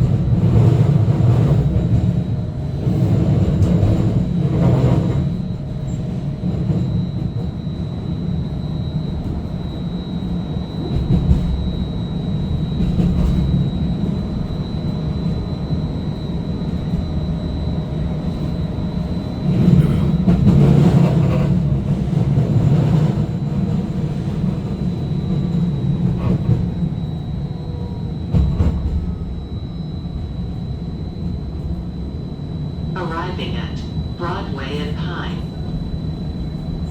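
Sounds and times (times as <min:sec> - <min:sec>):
streetcar wheels rumbling on rail: 0:00.0 - 0:36.9.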